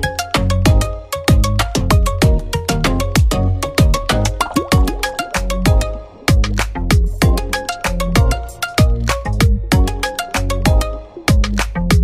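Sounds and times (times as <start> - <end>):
dance music with bass and percussion: 0.0 - 12.0.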